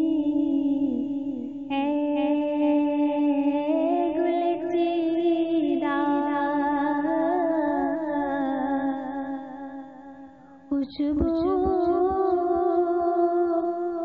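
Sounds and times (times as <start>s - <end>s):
woman singing unaccompanied: 0.0s - 14.0s.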